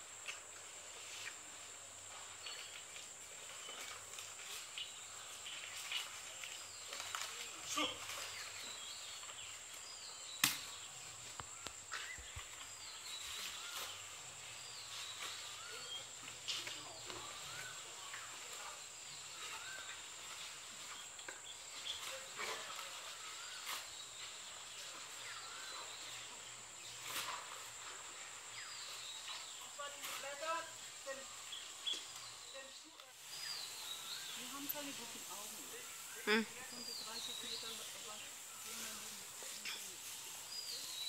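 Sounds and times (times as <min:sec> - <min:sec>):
insect drone: 0:00.0 - 0:41.0.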